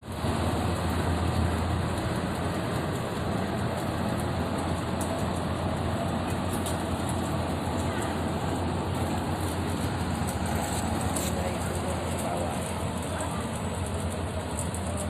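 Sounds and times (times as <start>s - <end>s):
road noise hiss: 0.0s - 15.0s
vehicle engine rumble: 0.0s - 15.0s.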